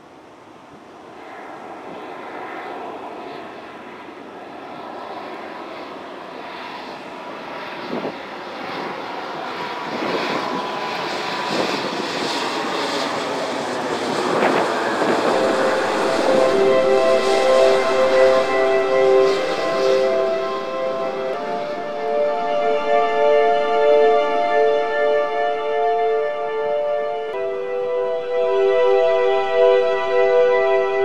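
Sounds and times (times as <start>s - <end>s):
jet airliner engines: 0.0s - 31.0s.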